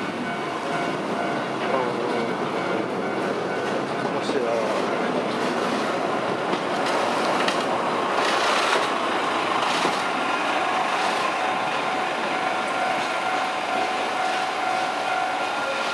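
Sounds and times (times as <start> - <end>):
rail vehicle rumbling on track: 0.0 - 15.9.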